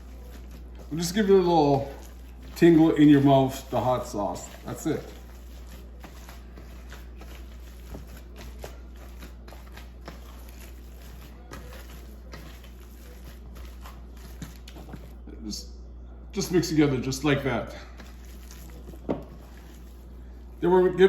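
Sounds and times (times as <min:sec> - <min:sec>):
wet squishes of kneading meat: 0:00.0 - 0:15.4, 0:16.4 - 0:21.0
steady low hum: 0:00.0 - 0:21.0.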